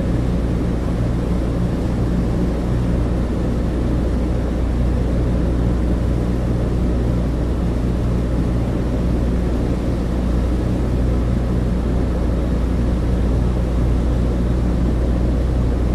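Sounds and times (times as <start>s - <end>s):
piston engines and propellers droning: 0.0s - 15.9s.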